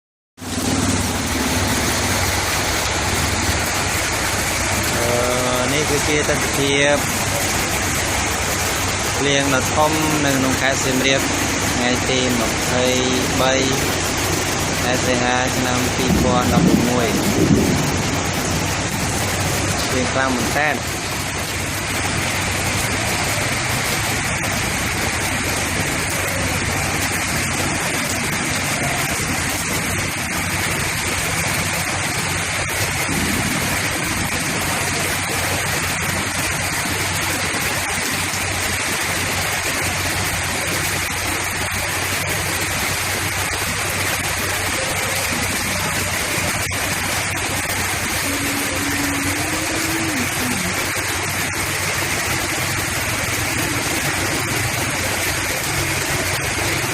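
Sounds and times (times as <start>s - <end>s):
heavy rain pouring: 0.4s - 56.9s.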